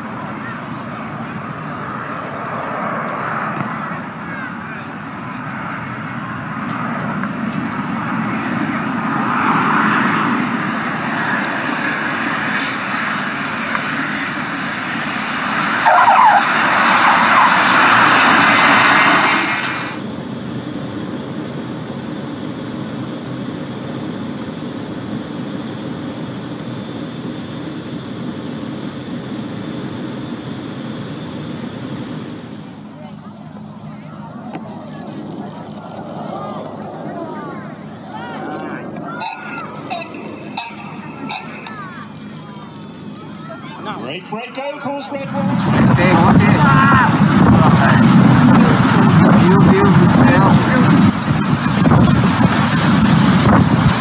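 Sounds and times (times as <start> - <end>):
cockpit air rush and engine noise: 0.0 - 54.0
propeller drone with whine: 0.0 - 54.0.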